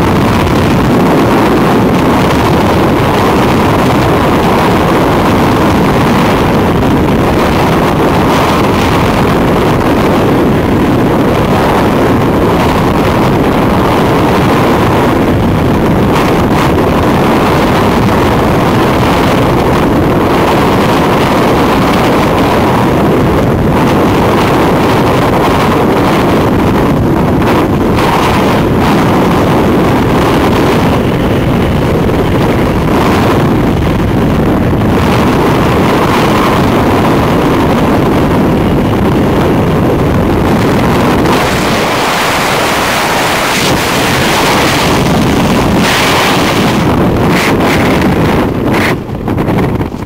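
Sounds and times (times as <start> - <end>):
freefall airflow buffeting microphone: 0.0 - 50.0.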